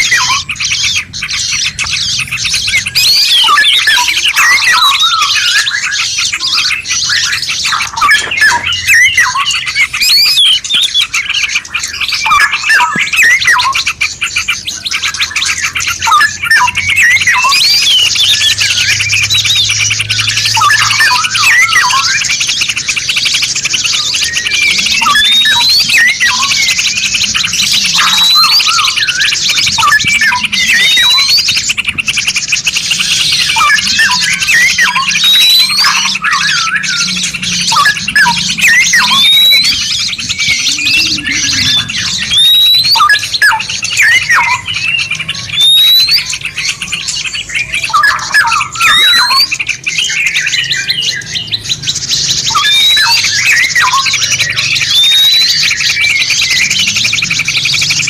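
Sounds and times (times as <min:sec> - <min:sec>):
upward-sweeping whistles: 0:00.0 - 0:51.3, 0:52.3 - 0:58.0
fast continuous bird trill: 0:00.0 - 0:58.0
songbirds chirping and trilling: 0:00.0 - 0:58.0.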